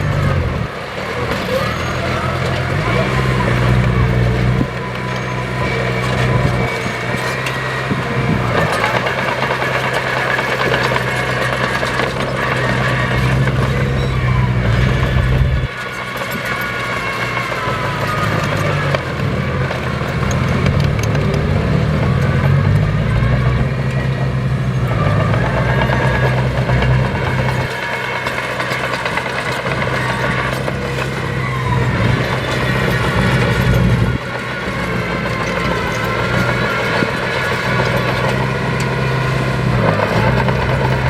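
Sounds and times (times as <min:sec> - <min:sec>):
diesel construction machinery: 0:00.0 - 0:41.0.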